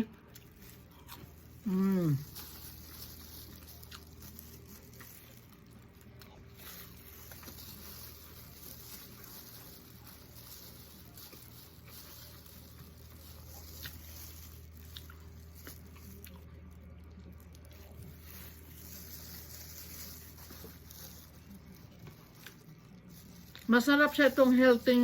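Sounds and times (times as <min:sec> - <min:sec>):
person chewing: 0:00.1 - 0:23.6.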